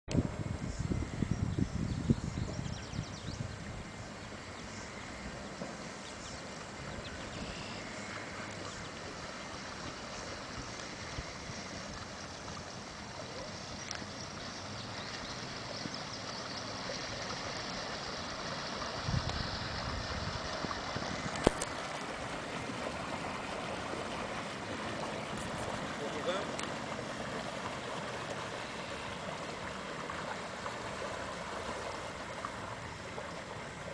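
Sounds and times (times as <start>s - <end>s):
water rushing off boat bow: 0.1s - 33.9s.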